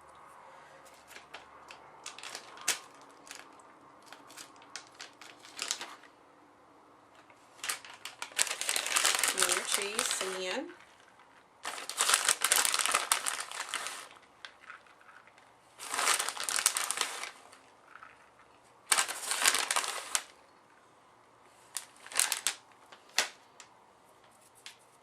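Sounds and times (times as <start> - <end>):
plastic bag crinkling: 1.0 - 6.1, 7.2 - 20.4, 21.6 - 23.4.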